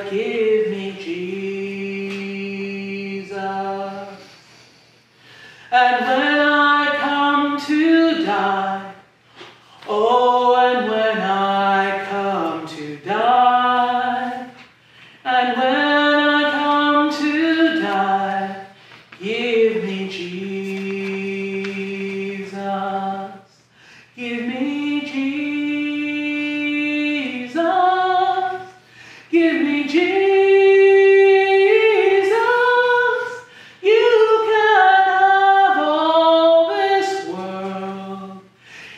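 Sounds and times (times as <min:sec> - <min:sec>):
unaccompanied voices singing: 0:00.0 - 0:04.7, 0:05.7 - 0:23.6, 0:29.4 - 0:38.6.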